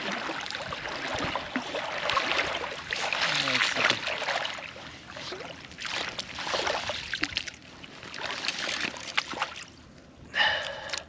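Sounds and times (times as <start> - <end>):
boots wading through water: 0.0 - 9.9.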